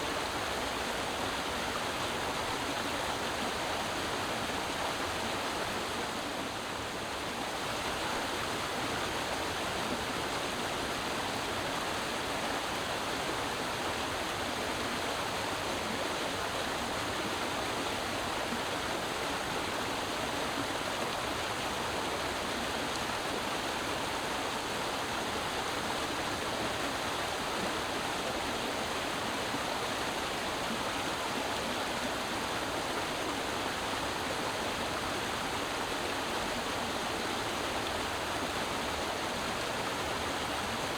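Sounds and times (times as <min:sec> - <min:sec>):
creek water rushing over rocks: 0:00.0 - 0:40.9.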